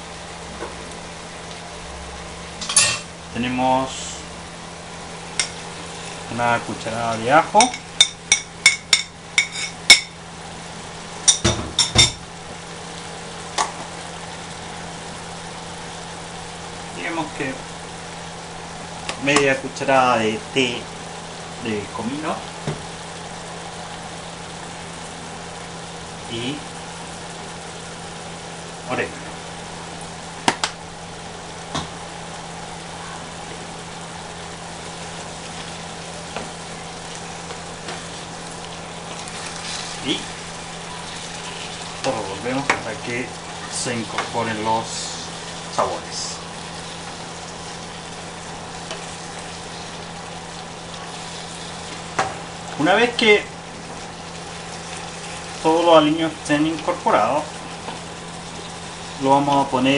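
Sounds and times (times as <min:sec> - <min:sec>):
meat and onions sizzling: 0:00.0 - 0:59.9
steady low hum: 0:00.0 - 0:59.9.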